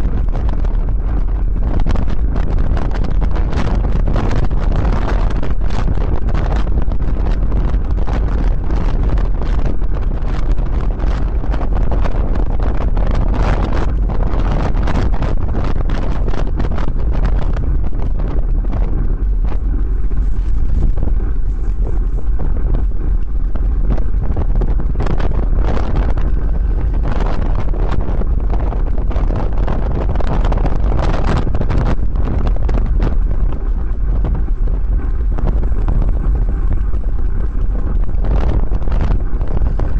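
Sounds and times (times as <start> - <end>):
wind rumbling on microphone: 0.0 - 39.9.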